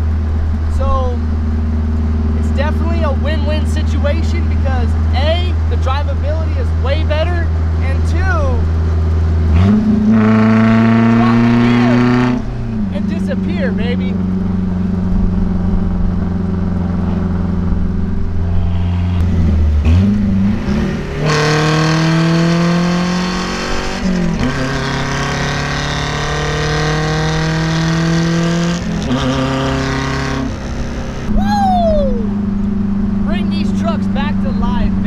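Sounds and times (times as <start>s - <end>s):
four-cylinder engine accelerating: 0.0s - 35.0s.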